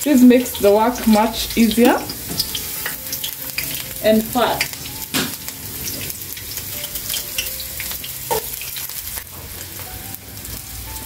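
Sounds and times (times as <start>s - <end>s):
onion sizzling in a frying pan: 0.0s - 11.0s
sharp oil crackles: 0.0s - 11.0s.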